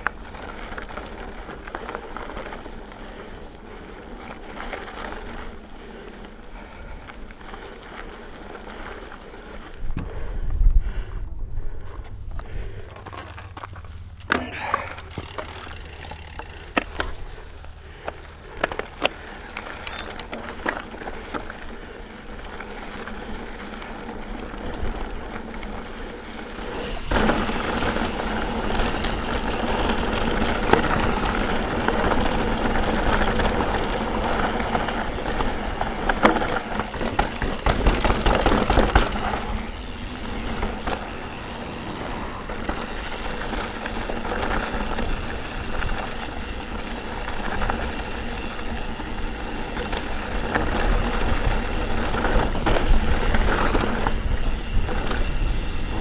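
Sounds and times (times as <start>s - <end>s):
bike tyres rumbling on trail: 0.0s - 56.0s.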